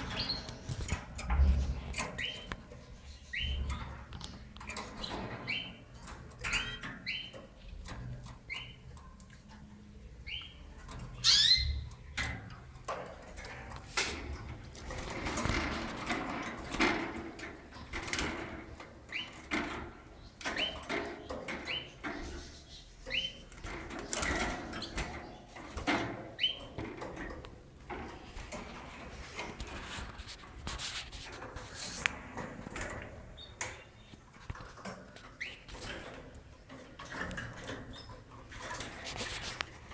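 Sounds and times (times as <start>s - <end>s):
clicks and rustling from cage: 0.0s - 9.9s, 10.7s - 39.9s
canaries chirping: 0.0s - 29.8s, 31.3s - 39.9s.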